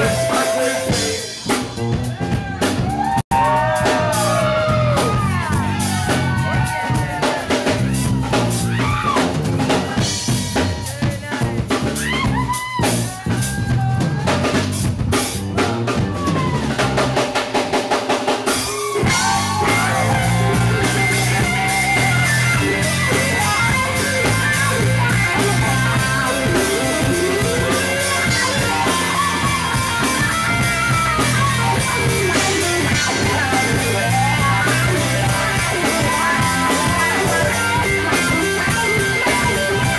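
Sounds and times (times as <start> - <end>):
live rock band playing: 0.0 - 39.9
rapid drum hits: 0.0 - 39.9.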